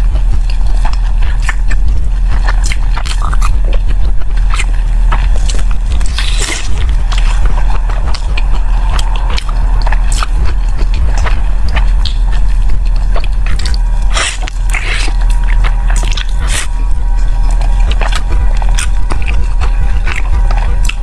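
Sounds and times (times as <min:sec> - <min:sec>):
chewing sticky rice: 0:00.0 - 0:21.0
low hum: 0:00.0 - 0:21.0.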